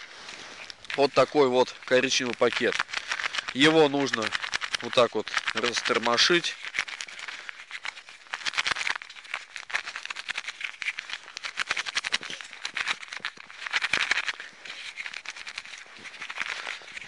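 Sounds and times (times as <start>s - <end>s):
packet crinkling: 0.0s - 17.0s.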